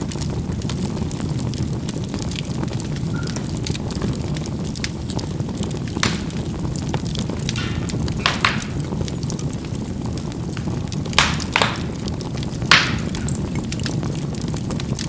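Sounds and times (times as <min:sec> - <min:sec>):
charcoal fire rumbling: 0:00.0 - 0:15.0
coals popping: 0:00.0 - 0:15.0.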